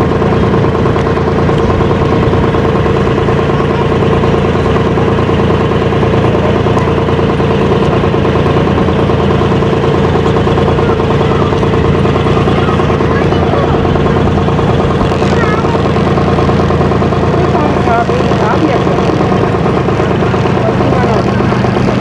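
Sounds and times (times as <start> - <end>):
ferry engine humming: 0.0 - 22.0.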